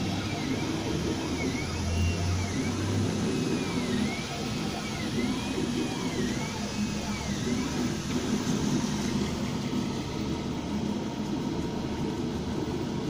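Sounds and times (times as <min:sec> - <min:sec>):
stepper motors whining: 0:00.0 - 0:11.2
fans whirring: 0:00.0 - 0:13.0.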